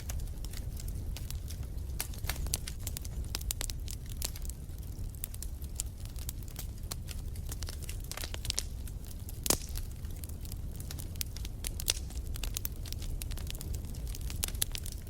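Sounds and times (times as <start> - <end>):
steady low rumble: 0.0 - 14.9
wood fire crackling and popping: 0.0 - 15.0.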